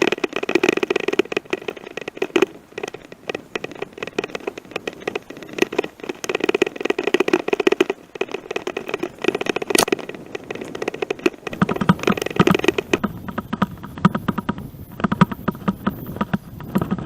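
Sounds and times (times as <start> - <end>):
bicycle rattling on rough road: 0.0 - 17.0.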